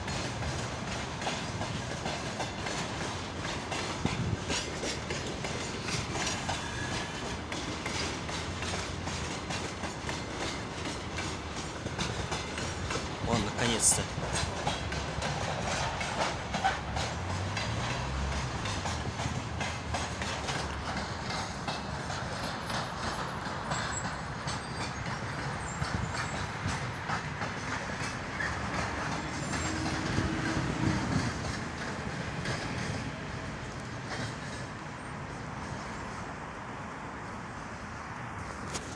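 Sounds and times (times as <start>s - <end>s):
electric train running on rails: 0.0s - 38.9s
wheels clicking over rail joints: 0.0s - 38.9s.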